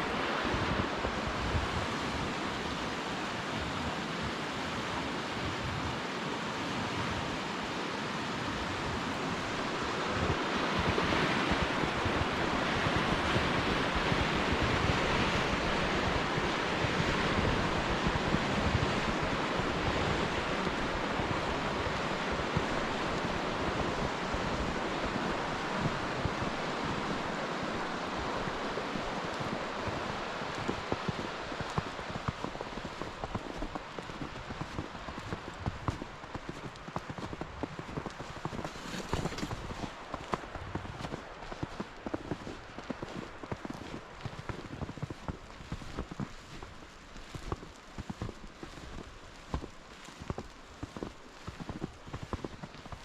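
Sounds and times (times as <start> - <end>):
wind buffeting microphone: 0.0 - 7.5, 8.3 - 53.0.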